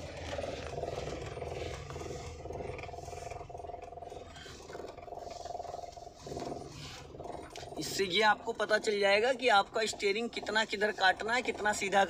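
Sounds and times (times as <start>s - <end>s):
car engine idling inside cabin: 0.0s - 12.0s.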